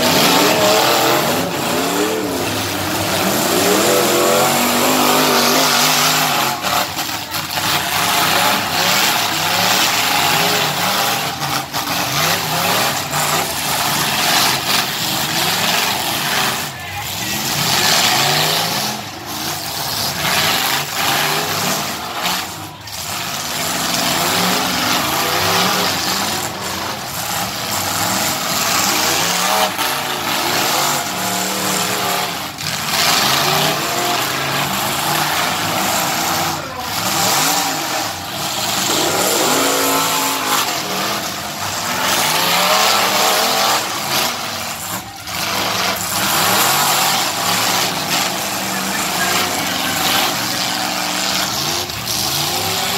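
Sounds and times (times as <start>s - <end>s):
car engines revving: 0.0s - 52.9s.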